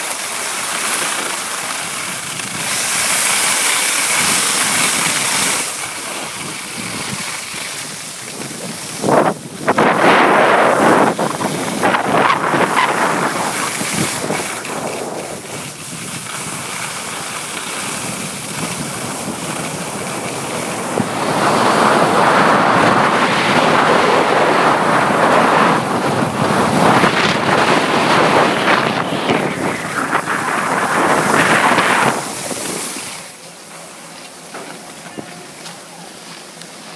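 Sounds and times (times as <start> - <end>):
skis scraping over snow: 0.0 - 36.9
wind rushing over microphone: 1.9 - 33.4.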